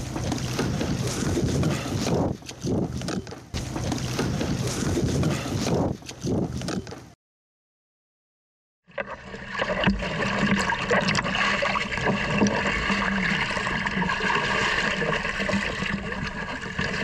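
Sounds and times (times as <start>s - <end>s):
seawater sloshing and splashing: 0.0s - 7.2s, 8.9s - 17.0s.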